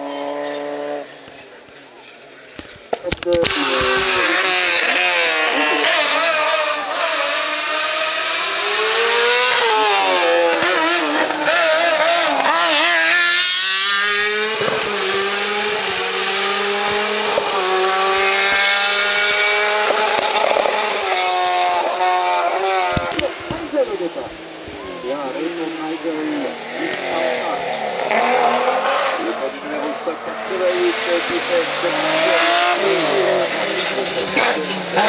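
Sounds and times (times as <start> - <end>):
race car engine at full throttle: 0.0 - 35.0.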